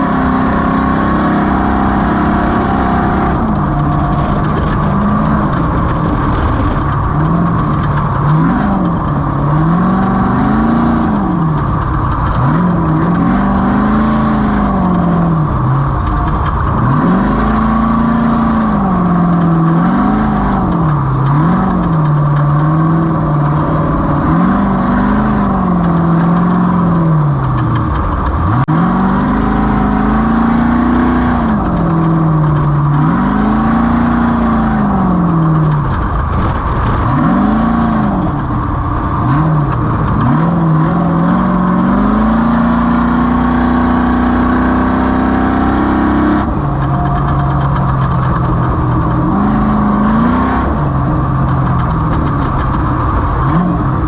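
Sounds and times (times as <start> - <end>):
race vehicle engine revving: 0.0 - 54.0
steady rushing noise: 0.0 - 54.0.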